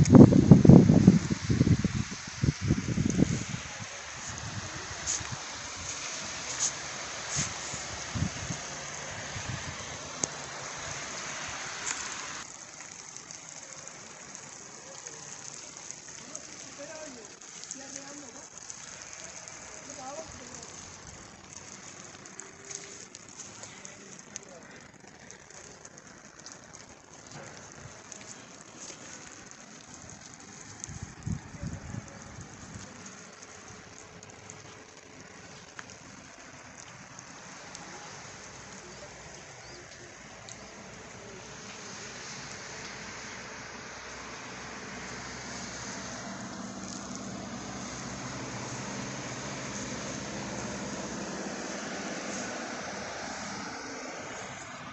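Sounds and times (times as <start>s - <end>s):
rain hissing: 0.0s - 54.9s
raindrops ticking: 0.0s - 54.9s.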